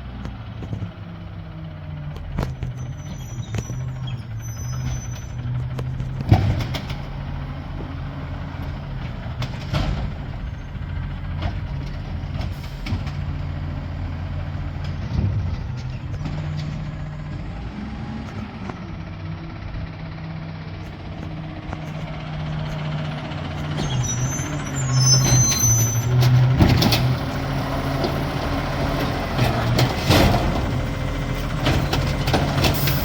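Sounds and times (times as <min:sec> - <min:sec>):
garbage truck engine running: 0:00.0 - 0:33.0.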